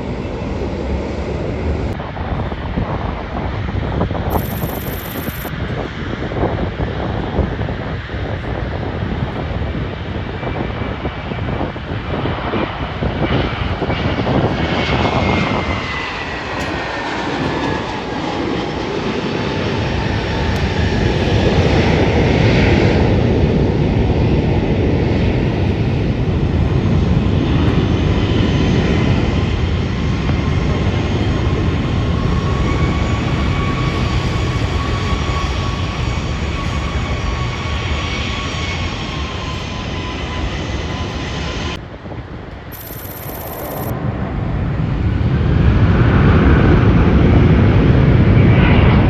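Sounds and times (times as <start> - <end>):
jet plane roar passing: 0.0 - 49.0.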